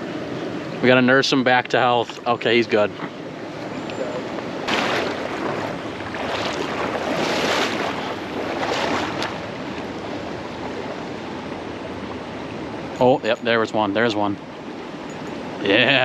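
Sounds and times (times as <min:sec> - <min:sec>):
rushing river water: 0:00.0 - 0:16.0.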